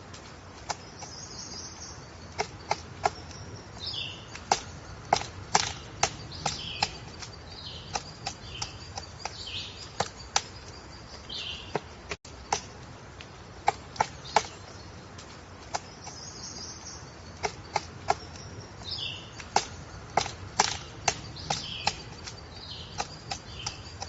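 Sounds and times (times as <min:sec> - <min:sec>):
woodpecker pecking wood: 0:00.0 - 0:24.0.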